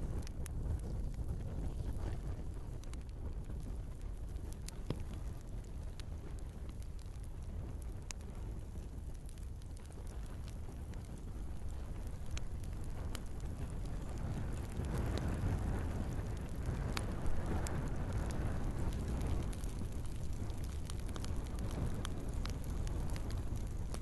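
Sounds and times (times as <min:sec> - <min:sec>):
flames rushing: 0:00.0 - 0:24.0
logs crackling and popping: 0:00.0 - 0:24.0.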